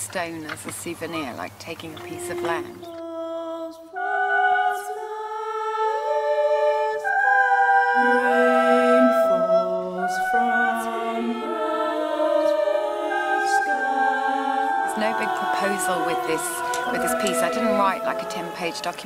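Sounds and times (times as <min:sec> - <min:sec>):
a cappella choir singing: 0:02.0 - 0:19.0.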